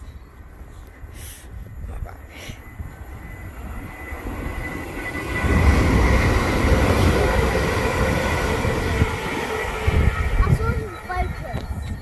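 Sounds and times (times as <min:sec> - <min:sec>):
train passing: 0:00.0 - 0:12.0.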